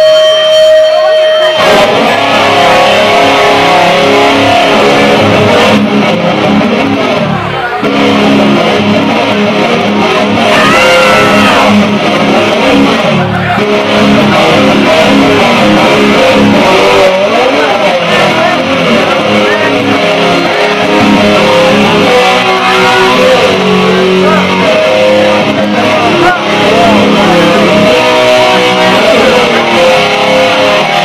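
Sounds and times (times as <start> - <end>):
slide electric guitar: 0.0 - 31.0.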